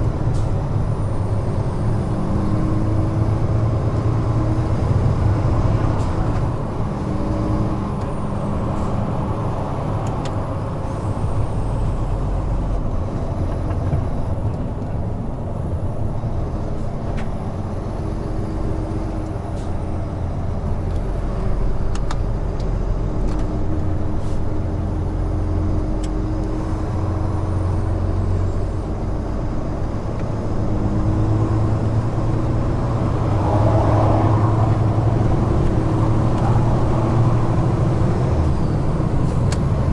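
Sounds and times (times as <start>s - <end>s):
truck diesel engine running: 0.0s - 39.9s
tyre and road noise: 0.0s - 39.9s.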